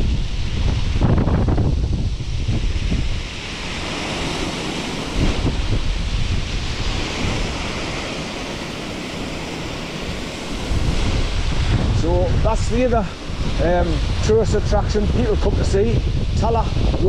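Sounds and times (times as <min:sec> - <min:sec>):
wind buffeting microphone: 0:00.0 - 0:17.0
waterfall rushing: 0:02.0 - 0:15.7.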